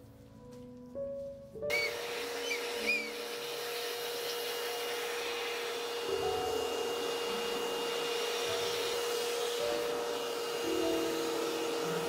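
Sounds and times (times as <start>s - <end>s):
vacuum cleaner whining: 1.6s - 12.0s.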